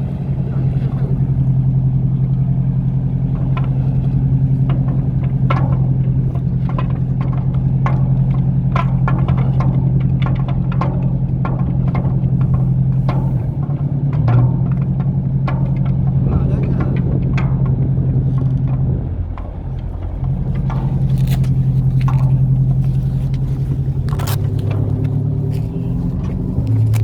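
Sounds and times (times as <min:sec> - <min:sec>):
boat engine droning: 0:00.0 - 0:27.0
clicks and knocks: 0:00.3 - 0:27.0.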